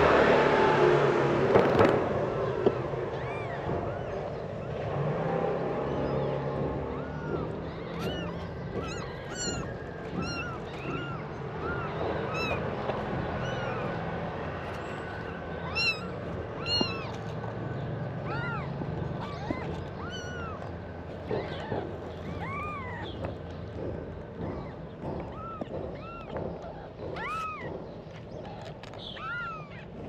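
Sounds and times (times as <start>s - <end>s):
kittens mewing: 2.0s - 30.0s.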